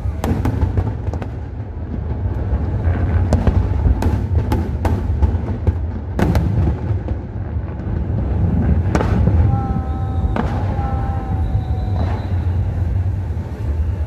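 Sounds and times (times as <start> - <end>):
fireworks bursting with bangs: 0.0 - 14.0
low rumble: 0.0 - 14.0.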